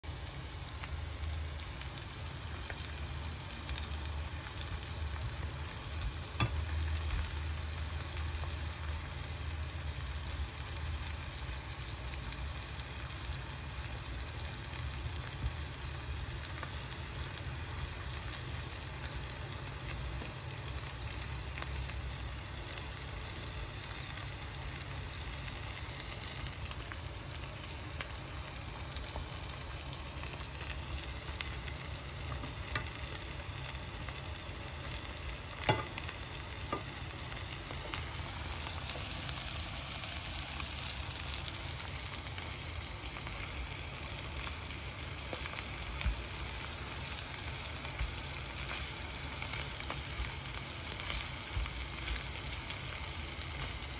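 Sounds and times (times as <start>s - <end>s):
prawns sizzling in a pan: 0.0s - 53.9s.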